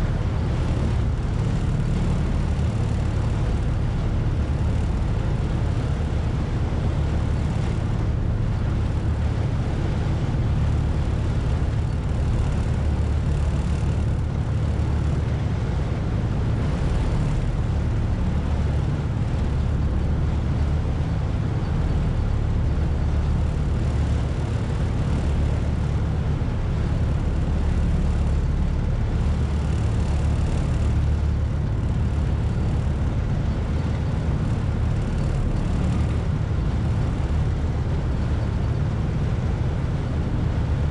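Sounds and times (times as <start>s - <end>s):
ferry engines droning: 0.0s - 40.9s.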